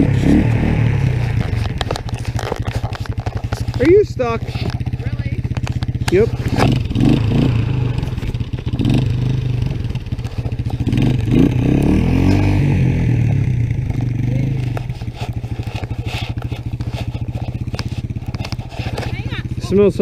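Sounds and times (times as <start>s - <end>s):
three-wheeler engine revving and idling: 0.0s - 20.0s.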